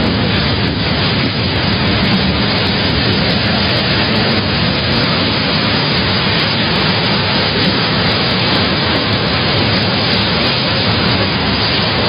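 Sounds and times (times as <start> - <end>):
heavy rain: 0.0 - 12.0
strong storm wind: 0.0 - 12.0.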